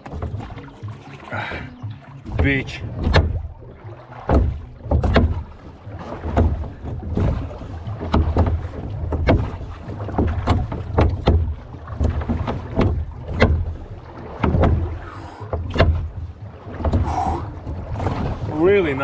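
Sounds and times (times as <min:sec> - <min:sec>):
oars knocking in oarlocks: 0:00.0 - 0:19.0
water sloshing against hull: 0:00.0 - 0:19.0.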